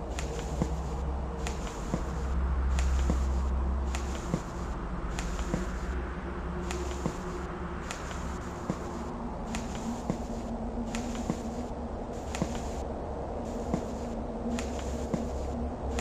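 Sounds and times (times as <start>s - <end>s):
faint held hum tones: 0.0s - 16.0s
sharp clicks: 0.1s - 6.0s, 6.6s - 12.9s, 13.5s - 16.0s.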